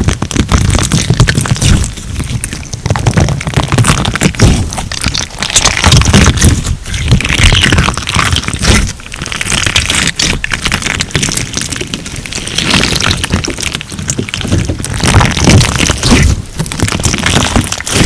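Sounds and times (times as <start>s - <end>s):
slime crackling and popping: 0.0s - 18.0s.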